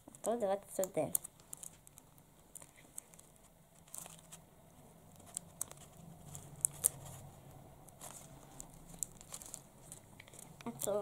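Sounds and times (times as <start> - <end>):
paper rustling: 0.9 - 4.4, 5.1 - 11.0.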